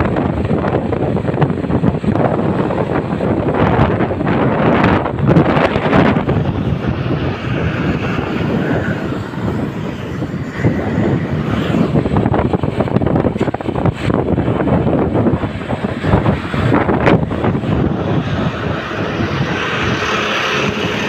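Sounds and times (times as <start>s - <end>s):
road traffic and engines: 0.0s - 21.0s
wind buffeting microphone: 0.0s - 21.0s.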